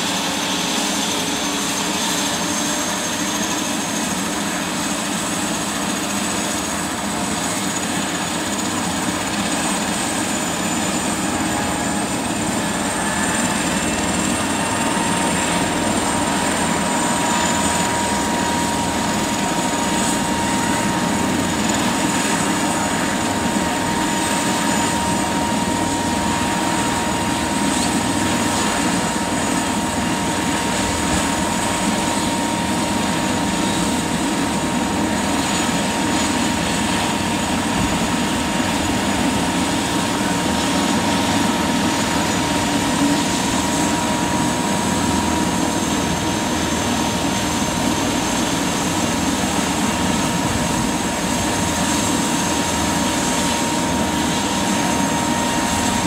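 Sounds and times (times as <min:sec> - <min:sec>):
helicopter engine and rotor: 0:00.0 - 0:56.0
high turbine whine: 0:00.0 - 0:56.0.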